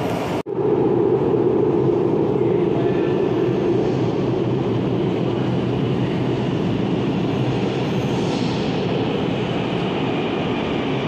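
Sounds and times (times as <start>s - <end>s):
metro train rumbling into station: 0.0s - 11.0s.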